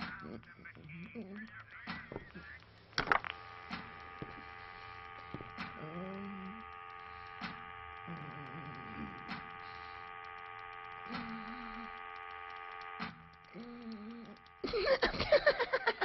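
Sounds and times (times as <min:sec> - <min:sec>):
wavering pitched groans: 0:00.0 - 0:02.6, 0:03.3 - 0:15.0
machine humming: 0:00.0 - 0:16.0
sharp ticks: 0:00.0 - 0:16.0.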